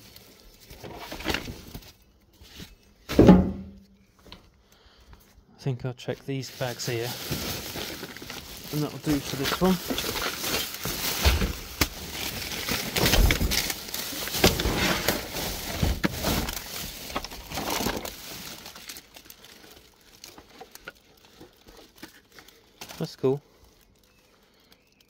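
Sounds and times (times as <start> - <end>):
plastic bag rustling: 0.0 - 4.1, 6.0 - 25.0.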